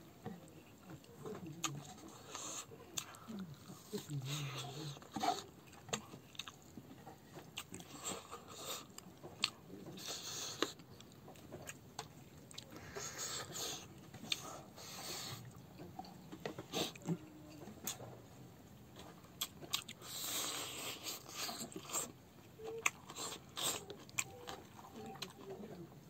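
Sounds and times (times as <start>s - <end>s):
person chewing and lip smacking: 0.2s - 18.1s, 19.0s - 25.8s.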